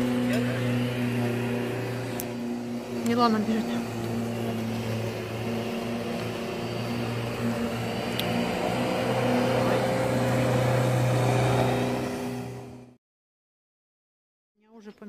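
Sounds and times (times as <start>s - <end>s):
electric lawnmower cutting grass: 0.0s - 13.0s.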